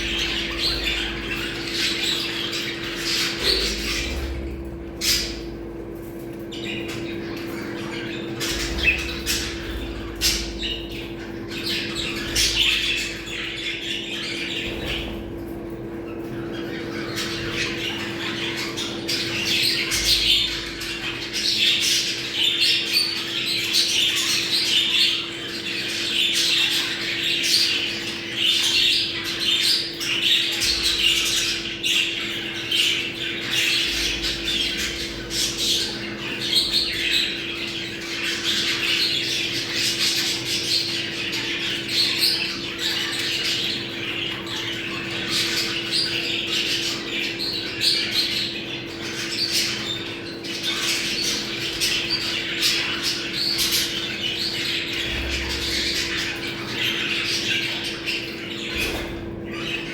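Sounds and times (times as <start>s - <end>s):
budgerigars chattering and squawking: 0.0s - 59.9s
steady low hum: 0.0s - 59.9s.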